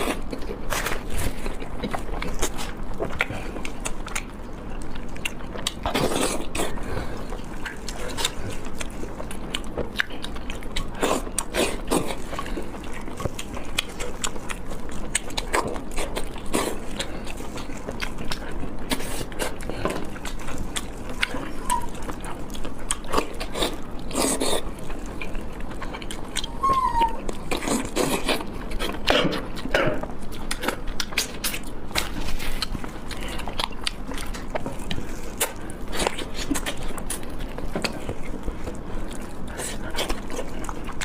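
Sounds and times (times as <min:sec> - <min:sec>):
person biting and chewing food: 0:00.0 - 0:41.0.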